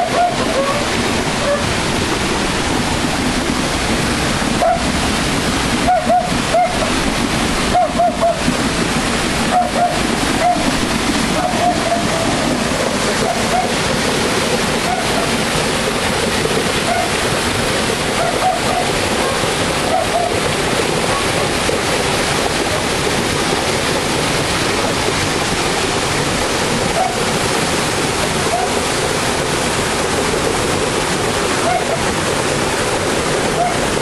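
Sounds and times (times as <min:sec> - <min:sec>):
waterfall rushing over boulders: 0:00.0 - 0:34.0.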